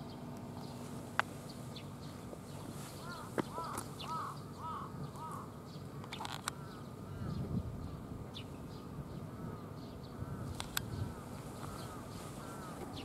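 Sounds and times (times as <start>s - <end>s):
bird calling: 0.0s - 7.4s, 9.2s - 13.0s
outdoor ambience: 0.0s - 13.0s.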